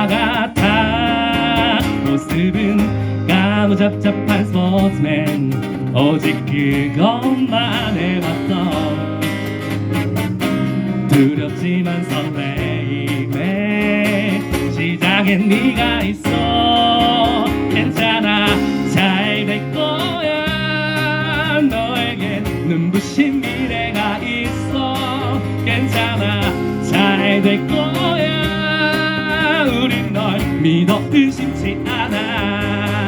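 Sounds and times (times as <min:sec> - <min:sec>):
person singing: 0:00.0 - 0:09.4, 0:11.1 - 0:33.0
acoustic guitar: 0:00.0 - 0:33.0.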